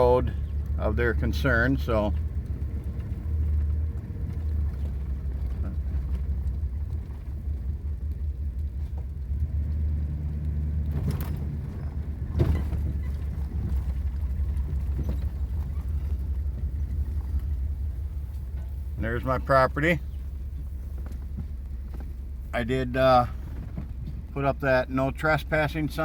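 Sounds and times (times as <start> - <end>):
vehicle rumbling on dirt road: 0.0 - 26.0.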